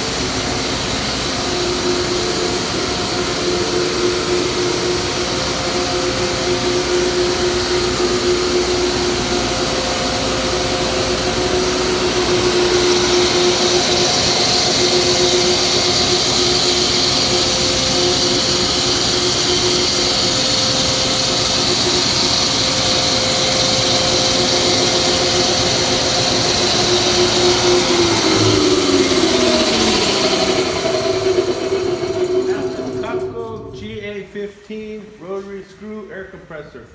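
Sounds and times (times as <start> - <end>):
air compressor hum: 0.0 - 36.9
compressor hiss: 0.0 - 36.9.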